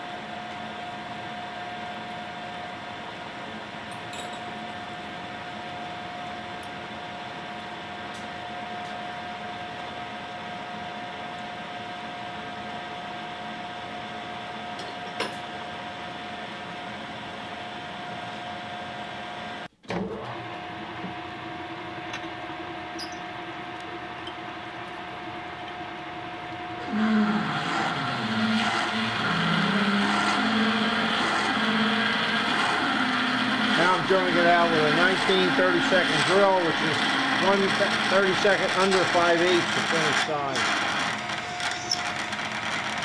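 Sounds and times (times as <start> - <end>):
machinery hum with whine: 0.0 - 43.0.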